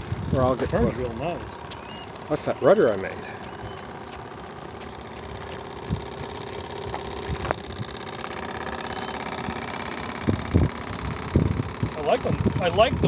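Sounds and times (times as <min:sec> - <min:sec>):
small steam engine running: 0:00.0 - 0:13.0.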